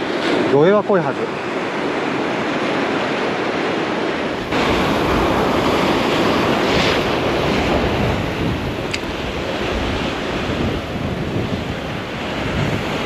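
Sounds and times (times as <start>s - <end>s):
surf breaking on boulder shore: 0.0s - 13.0s
wind on microphone: 1.4s - 13.0s.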